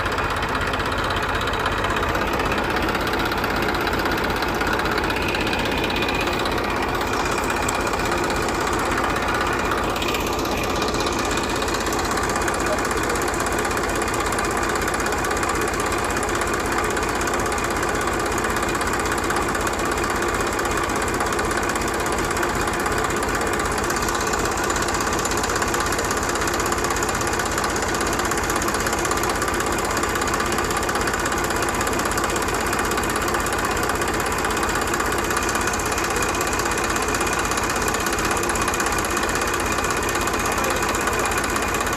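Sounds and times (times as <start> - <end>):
miniature tractor motor rattling: 0.0 - 41.9.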